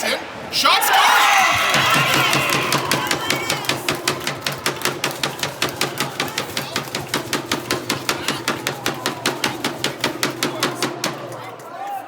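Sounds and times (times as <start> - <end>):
rhythmic banging: 1.6 - 11.8.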